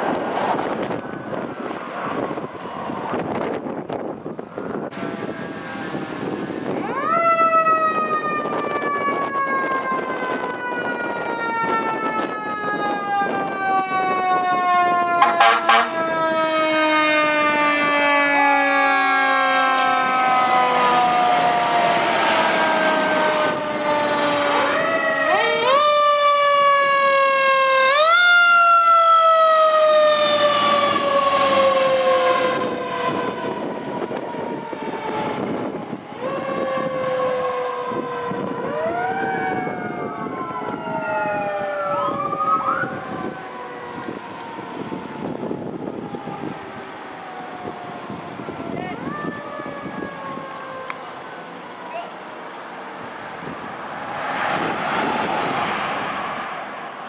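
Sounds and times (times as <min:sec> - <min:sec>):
fire engine sirens: 0:00.0 - 0:57.0.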